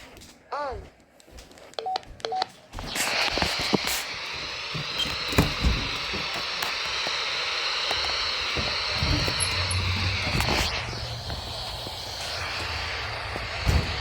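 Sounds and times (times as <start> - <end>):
radio static hiss: 2.8 - 14.0.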